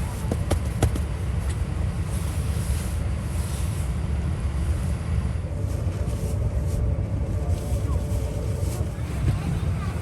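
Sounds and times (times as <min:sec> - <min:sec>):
airliner cabin rumble with hiss: 0:00.0 - 0:10.0.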